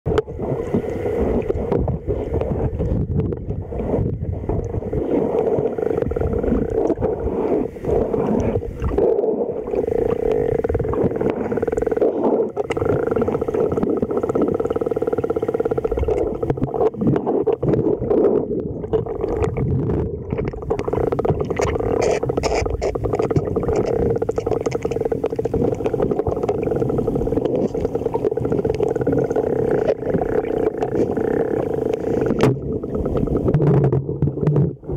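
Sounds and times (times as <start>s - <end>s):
underwater sloshing and gurgling: 0.1s - 34.9s.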